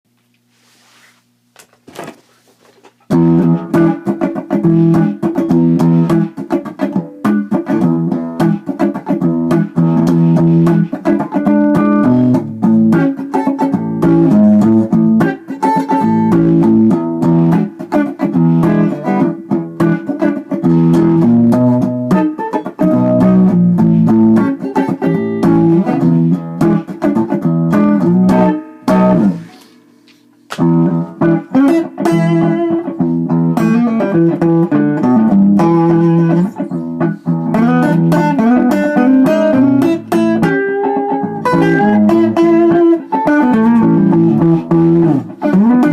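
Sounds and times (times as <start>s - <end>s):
blues guitar playing: 3.0s - 45.9s.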